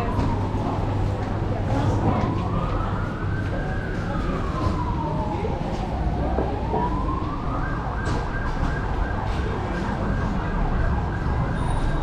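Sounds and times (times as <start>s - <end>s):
emergency vehicle siren: 0.0s - 12.0s
street traffic rumble: 0.0s - 12.0s.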